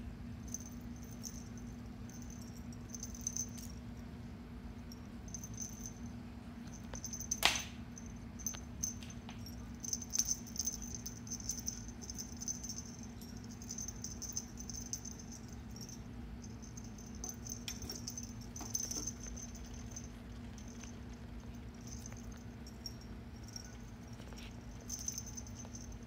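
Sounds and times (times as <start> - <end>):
steady low hum: 0.0 - 26.0
cat toy bell jingling: 0.4 - 4.0, 4.8 - 6.1, 6.7 - 26.0.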